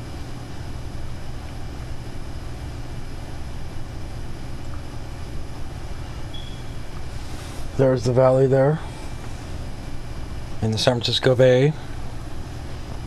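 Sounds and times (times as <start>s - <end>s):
low machine rumble: 0.0s - 13.0s.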